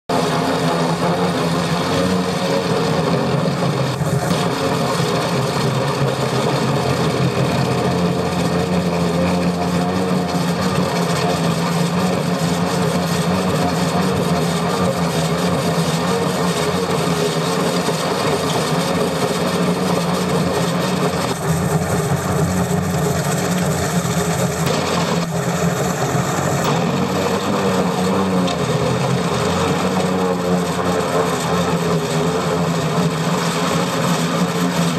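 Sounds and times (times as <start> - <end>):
excavator engine under load: 0.1 - 34.9.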